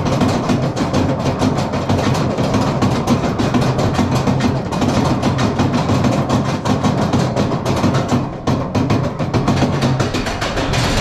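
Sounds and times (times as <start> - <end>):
roller coaster clattering on track: 0.0 - 11.0.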